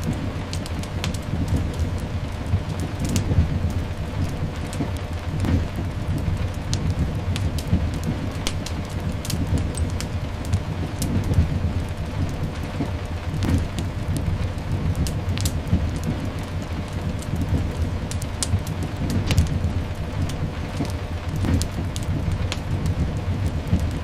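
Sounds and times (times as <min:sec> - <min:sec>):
log fire crackling pops: 0:00.0 - 0:24.0
rumble of thunder: 0:00.0 - 0:24.0
steady rain: 0:00.0 - 0:24.0.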